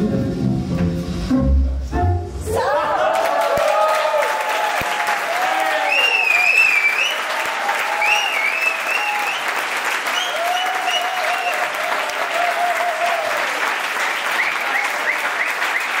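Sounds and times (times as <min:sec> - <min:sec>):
audience applauding: 0:02.6 - 0:16.0.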